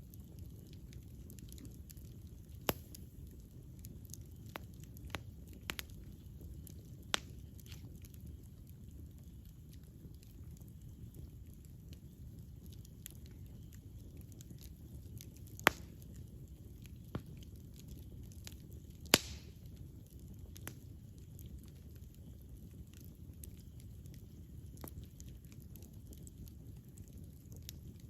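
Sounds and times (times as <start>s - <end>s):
campfire flame rumble: 0.0s - 28.0s
fire crackles: 0.0s - 28.0s
loud fire pops: 0.4s - 8.6s, 12.0s - 28.0s.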